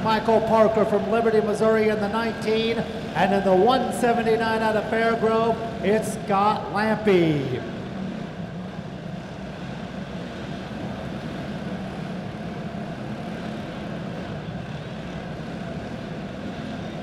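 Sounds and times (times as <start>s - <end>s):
kart engines droning: 0.0s - 17.0s.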